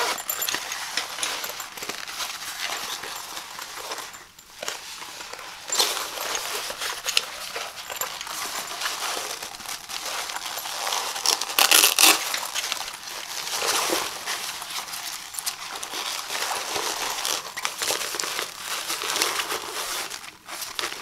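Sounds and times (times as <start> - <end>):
fabric backpack rustling: 0.0 - 21.0.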